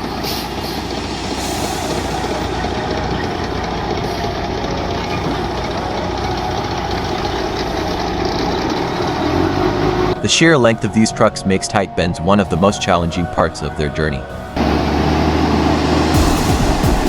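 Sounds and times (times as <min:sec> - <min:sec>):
truck diesel engine running: 0:00.0 - 0:13.6, 0:14.2 - 0:17.0.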